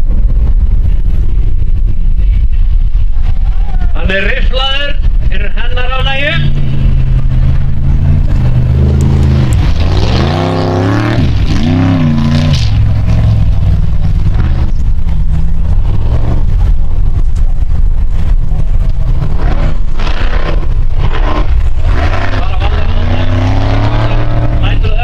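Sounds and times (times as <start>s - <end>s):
buggy engine revving: 0.0s - 25.0s.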